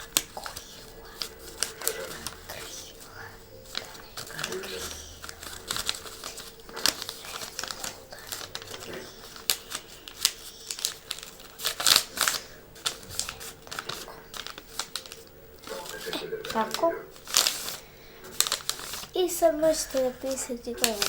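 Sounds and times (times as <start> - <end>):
paper rustling and crinkling: 0.0 - 21.0.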